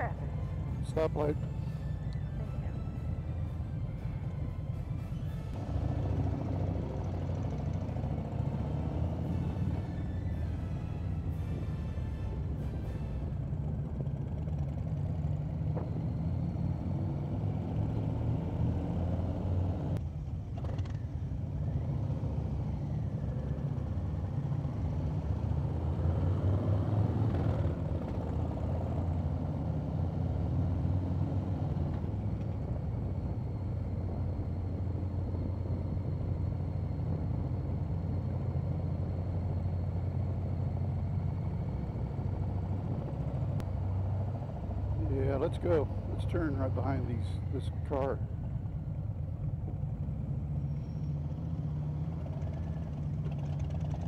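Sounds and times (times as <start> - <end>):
motorcycle engines running: 0.0 - 54.0.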